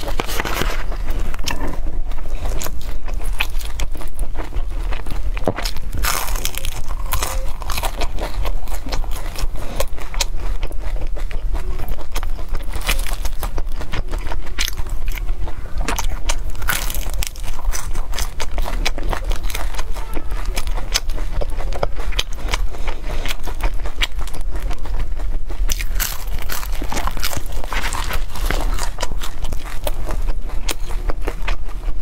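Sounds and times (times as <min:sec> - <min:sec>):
crunching and chewing wafer: 0:00.0 - 0:32.0
low hum: 0:00.0 - 0:32.0.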